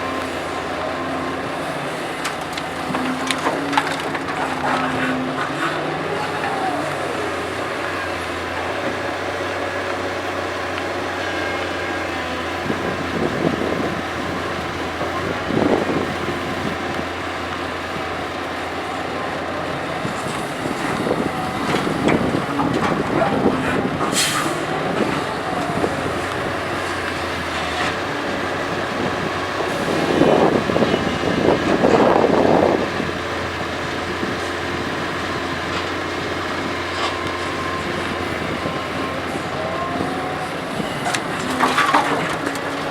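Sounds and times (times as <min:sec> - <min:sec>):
earth dumping rumbles: 0:00.0 - 0:42.9
excavator diesel engine running: 0:00.0 - 0:42.9.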